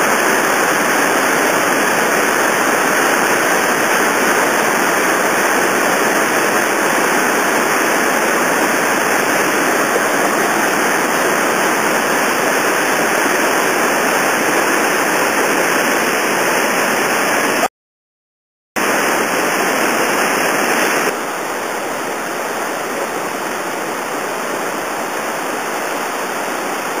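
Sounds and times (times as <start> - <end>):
whitewater rushing over boulders: 0.0 - 17.7, 18.8 - 27.0.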